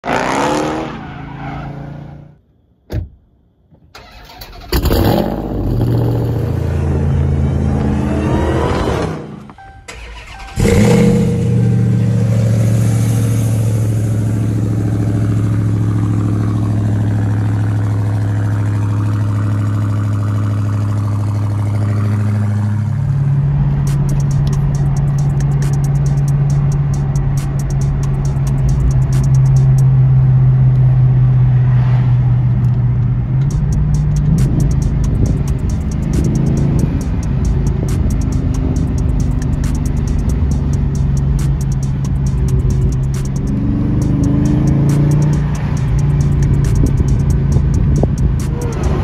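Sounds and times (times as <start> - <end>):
car engine revving: 0.0 - 2.4, 4.0 - 49.0.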